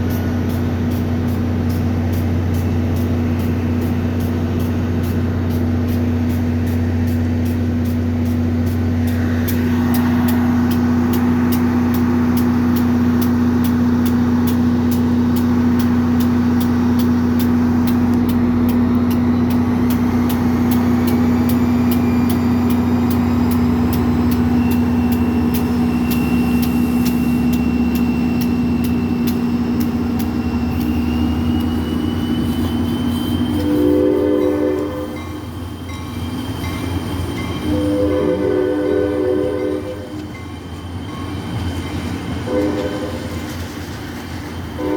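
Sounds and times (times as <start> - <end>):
diesel locomotive engine drone: 0.0 - 44.9.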